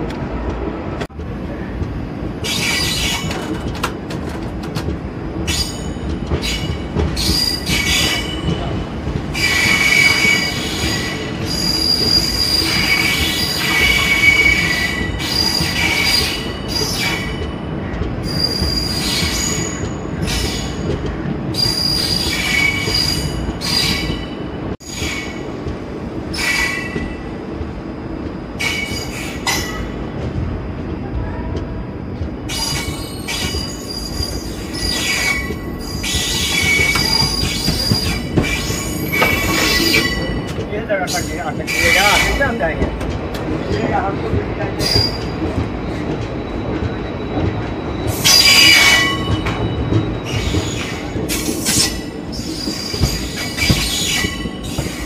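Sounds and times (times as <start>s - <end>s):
train rumbling on rails: 0.0s - 55.0s
train wheels squealing: 2.4s - 3.4s, 5.5s - 20.9s, 21.5s - 25.4s, 26.3s - 27.2s, 28.6s - 30.0s, 31.2s - 42.6s, 44.6s - 55.0s.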